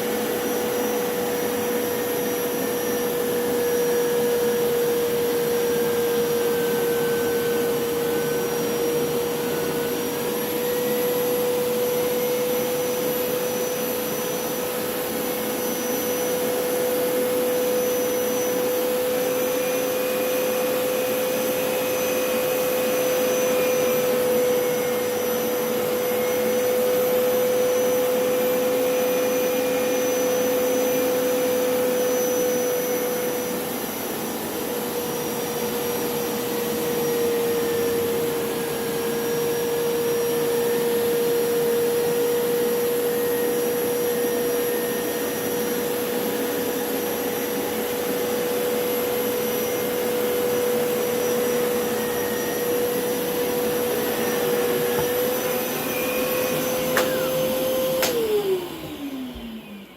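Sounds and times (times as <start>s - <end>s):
carpet cleaner motor whine: 0.0s - 59.9s.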